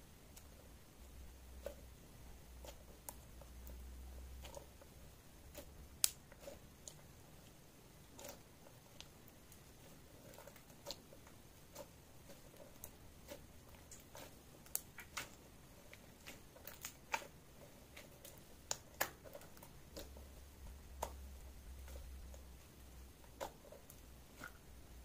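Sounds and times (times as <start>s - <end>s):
slime kneaded with sticky clicks: 2.6s - 25.0s.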